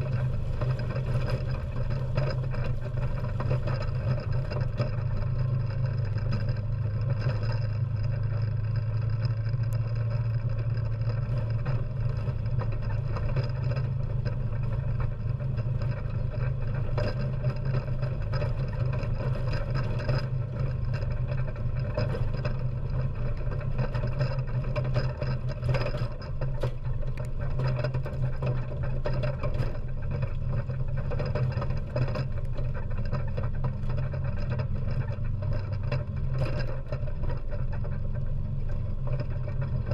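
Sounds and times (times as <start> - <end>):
atv engine running: 0.0 - 39.9
small knocks and rattles: 0.0 - 39.9.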